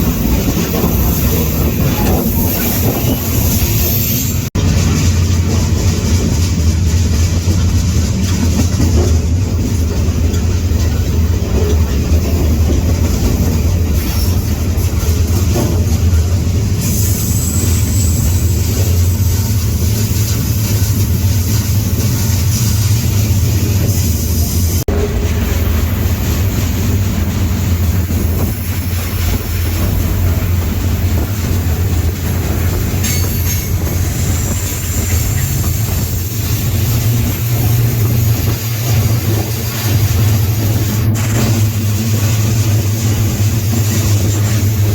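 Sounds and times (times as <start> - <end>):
train rumble: 0.0 - 44.9
wheel and rail noise: 0.0 - 44.9.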